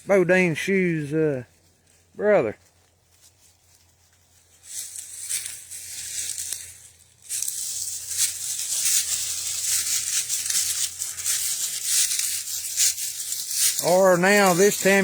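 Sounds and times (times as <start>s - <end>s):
footsteps crunching dry leaves: 1.5s - 15.0s.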